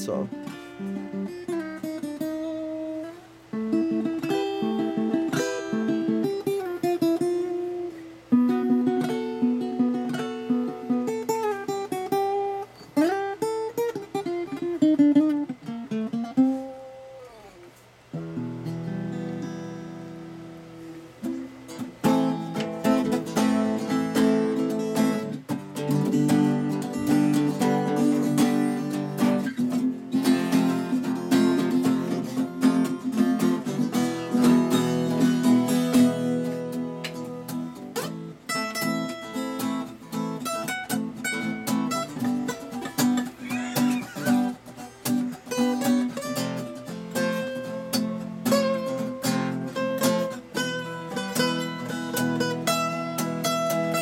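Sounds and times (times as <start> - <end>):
acoustic guitar melody: 0.0 - 54.0.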